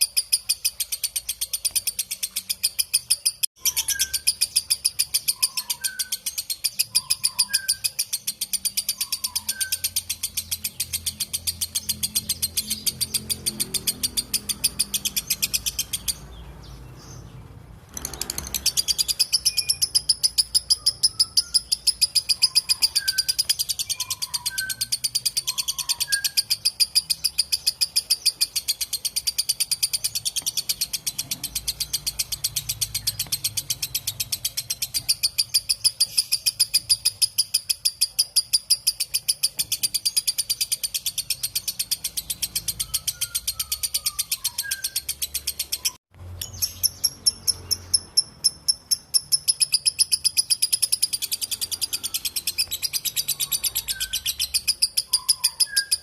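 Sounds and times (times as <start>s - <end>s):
bird rapid high chirps: 0.0s - 56.0s
faint lower bird chirps: 0.0s - 56.0s.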